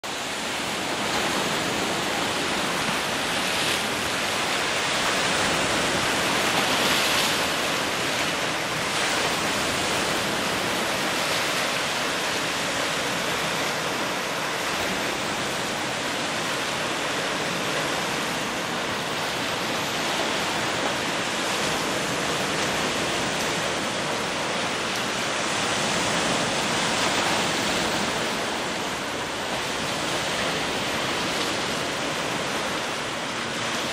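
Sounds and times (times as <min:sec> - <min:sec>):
surf breaking on shore: 0:00.0 - 0:33.9.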